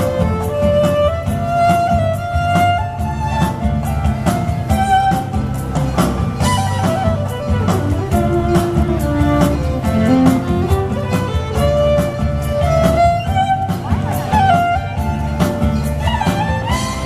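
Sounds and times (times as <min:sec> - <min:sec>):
fiddle melody: 0:00.0 - 0:17.0
low accompaniment: 0:00.0 - 0:17.0
percussive beat: 0:00.0 - 0:17.0.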